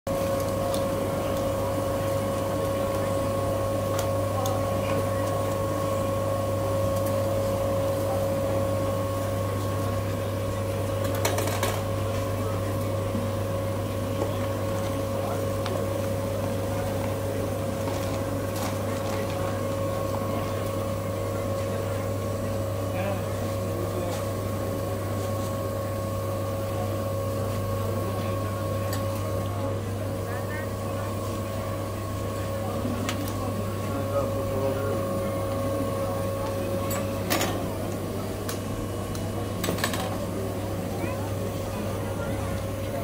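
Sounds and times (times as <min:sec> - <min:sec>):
rotisserie mechanical hum: 0:00.1 - 0:43.0.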